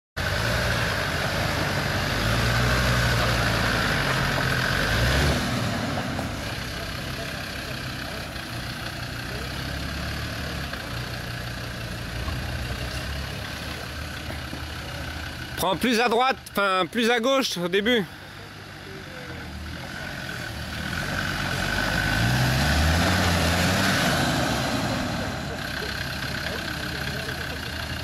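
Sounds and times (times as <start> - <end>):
engine working under load: 0.2 - 28.0.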